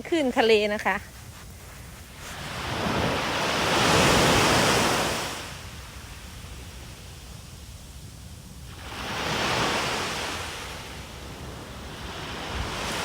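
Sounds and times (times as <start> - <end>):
sea waves surging and washing: 2.1 - 13.0.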